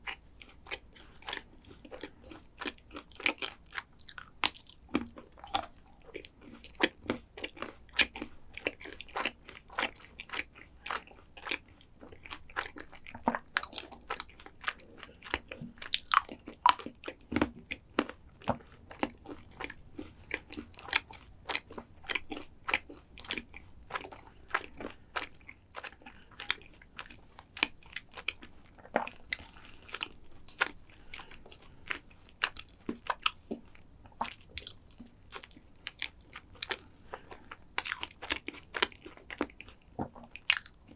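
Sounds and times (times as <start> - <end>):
chewing crunchy food: 0.0 - 40.9.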